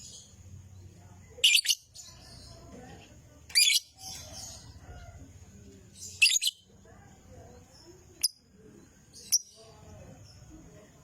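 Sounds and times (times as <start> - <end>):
lovebird chirping: 0.0 - 2.7, 3.5 - 4.8, 6.0 - 10.8.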